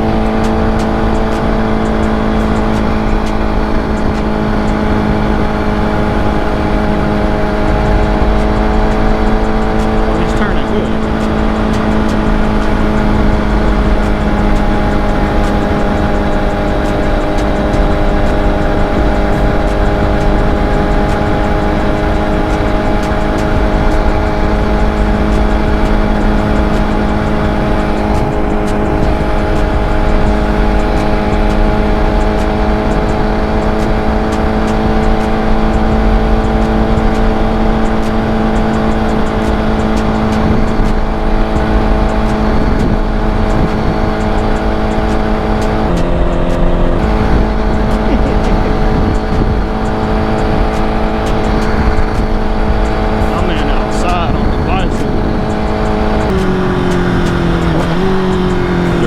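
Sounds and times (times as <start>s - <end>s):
motorcycle engine cruising: 0.0s - 59.0s
wind rush: 0.0s - 59.0s.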